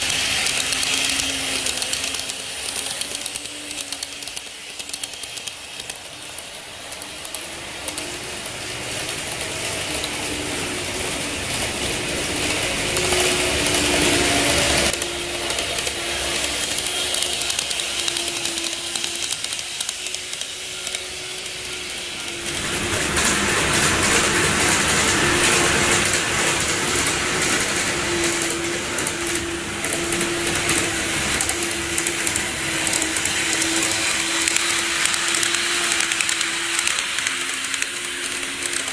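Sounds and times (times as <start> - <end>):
model train motor hum: 0.0 - 38.9
wheels clicking on rails: 0.0 - 38.9.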